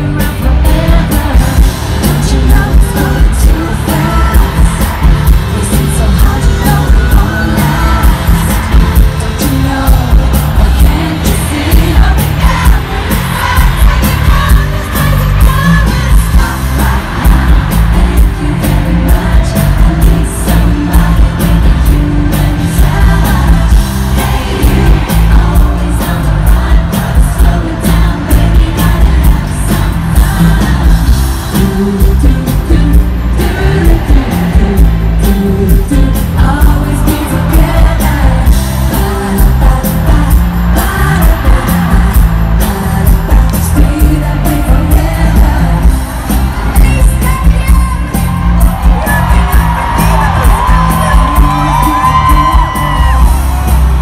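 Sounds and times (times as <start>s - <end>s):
live pop music with singing: 0.0s - 54.0s.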